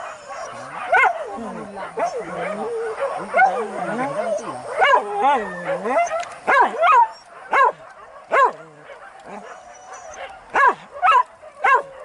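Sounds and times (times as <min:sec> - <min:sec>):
dog barking in high yelps: 0:00.0 - 0:12.0.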